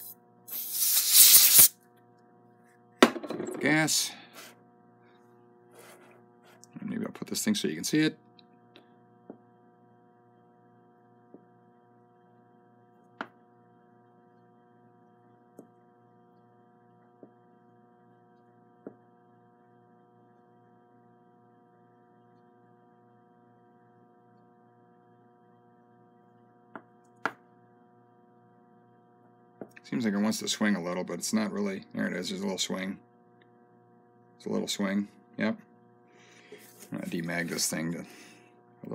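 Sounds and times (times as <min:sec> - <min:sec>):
faint electrical hum: 0:00.0 - 0:38.9.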